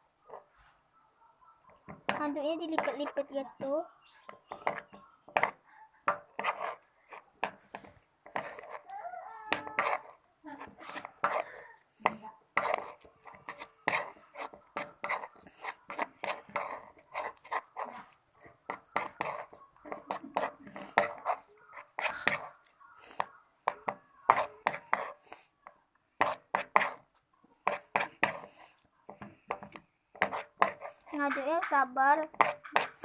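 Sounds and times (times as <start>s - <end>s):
slime being stirred: 5.5s - 33.0s.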